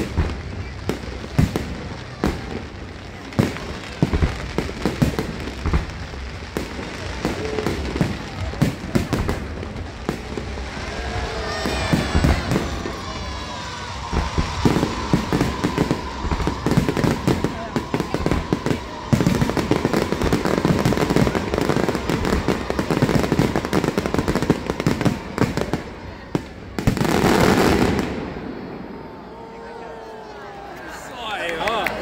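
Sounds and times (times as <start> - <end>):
fireworks bangs and pops: 0.0 - 29.0
whistling fireworks: 0.0 - 32.0.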